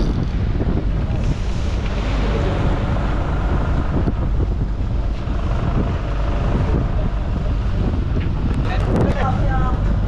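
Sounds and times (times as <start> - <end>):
boat machinery humming: 0.0 - 10.0
wind buffeting microphone: 0.0 - 10.0.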